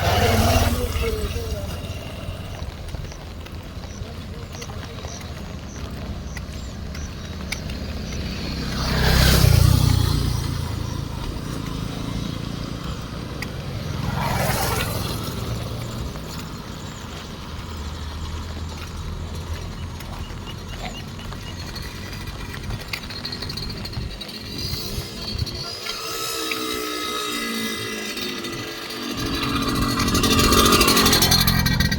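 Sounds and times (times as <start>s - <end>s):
vehicles passing on wet road: 0.0s - 31.9s.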